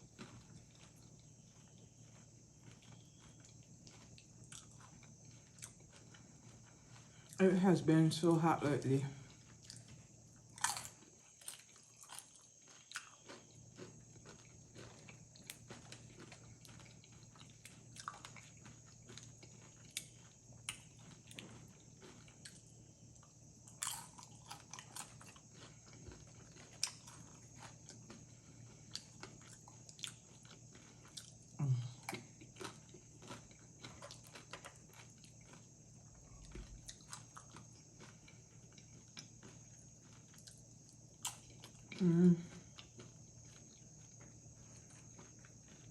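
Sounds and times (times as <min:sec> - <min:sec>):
tortilla chips crunching: 0:00.0 - 0:07.4, 0:08.2 - 0:45.9
chewing: 0:00.0 - 0:45.9.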